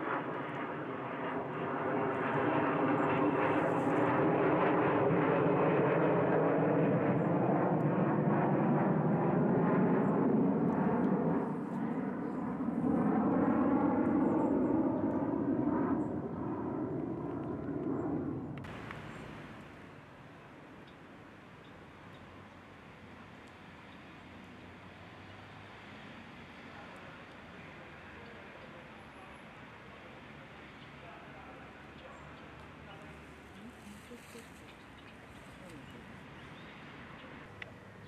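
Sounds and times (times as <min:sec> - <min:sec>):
aircraft engine drone: 0:00.0 - 0:38.0.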